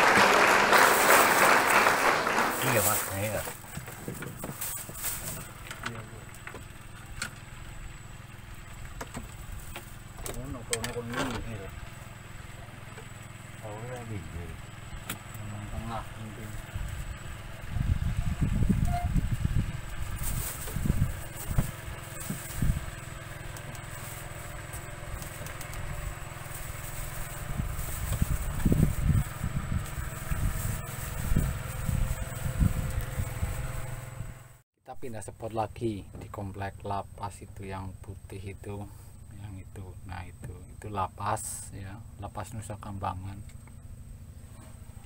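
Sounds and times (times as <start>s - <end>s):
boat engine rumbling: 0.0s - 34.6s, 35.9s - 45.0s.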